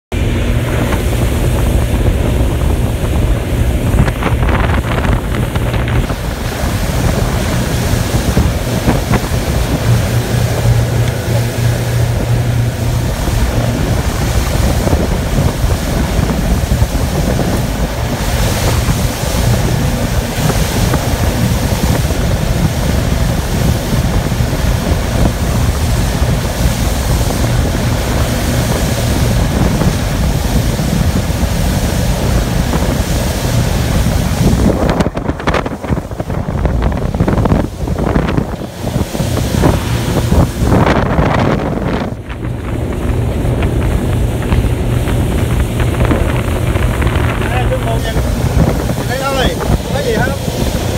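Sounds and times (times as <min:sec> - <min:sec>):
outboard motors droning: 0:00.0 - 0:50.9
rushing water from wake: 0:00.0 - 0:50.9
wind buffeting microphone: 0:00.1 - 0:50.9.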